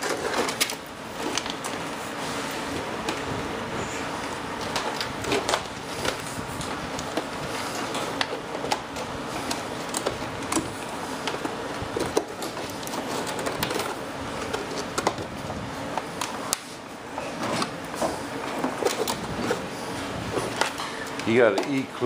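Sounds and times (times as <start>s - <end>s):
clicks and rustling of wiring: 0.0s - 2.0s, 4.2s - 16.7s, 17.4s - 19.6s, 20.3s - 22.0s.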